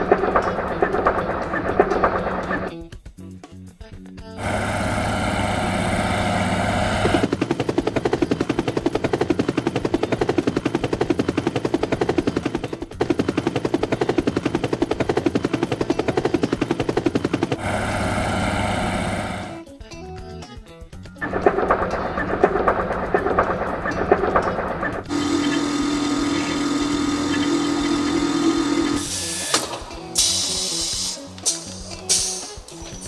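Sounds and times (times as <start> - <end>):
helicopter turbine whine: 0.0 - 2.7, 4.4 - 19.6, 21.2 - 30.8
helicopter rotor chopping: 0.0 - 2.8, 4.4 - 19.6, 21.2 - 33.0.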